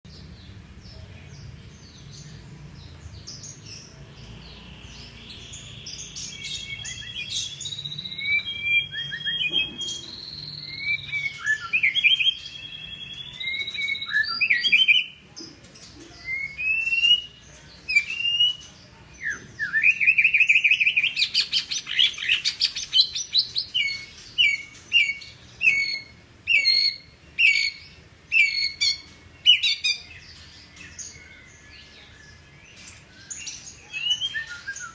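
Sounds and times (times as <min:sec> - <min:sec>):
bird singing varied song: 0:00.1 - 0:34.9.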